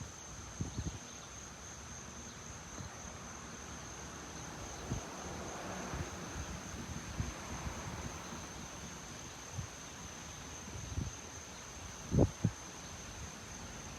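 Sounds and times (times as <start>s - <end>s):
crickets chirring: 0.0s - 13.9s.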